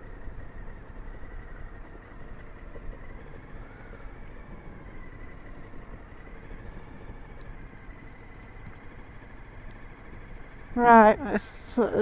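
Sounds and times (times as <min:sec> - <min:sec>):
faint steady tones: 0:00.0 - 0:12.0
motorcycle engine running: 0:00.0 - 0:12.0.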